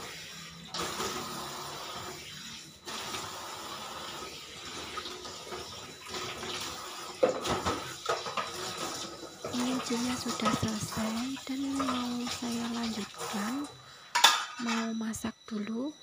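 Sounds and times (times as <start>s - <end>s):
tap water running into sink: 0.0s - 13.7s
dishes being rinsed: 0.0s - 15.0s.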